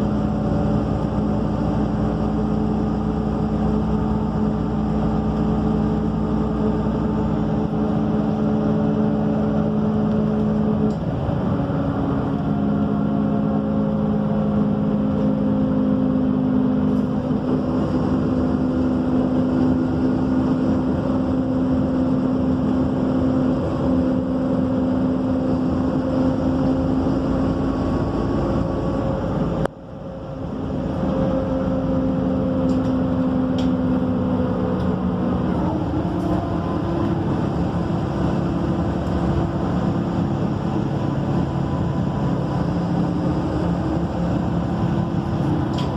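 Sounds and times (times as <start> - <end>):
bus engine droning: 0.0 - 45.9.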